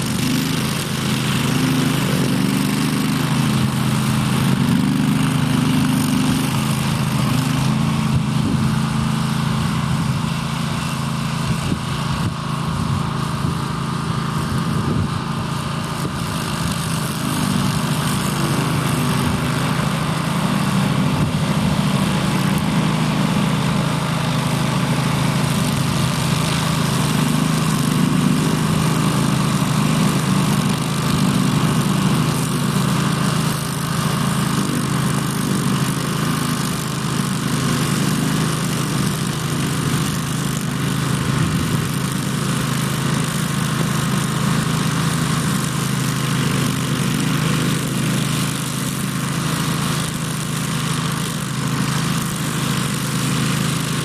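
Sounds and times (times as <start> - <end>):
ride-on mower engine droning: 0.0 - 54.0.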